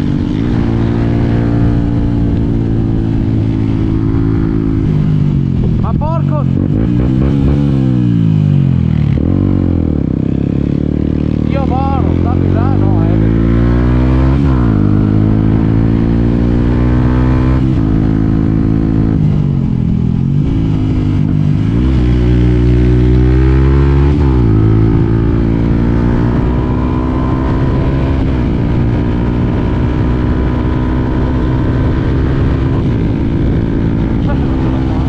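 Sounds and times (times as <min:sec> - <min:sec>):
motorcycle engine shifting gears: 0:00.0 - 0:35.0.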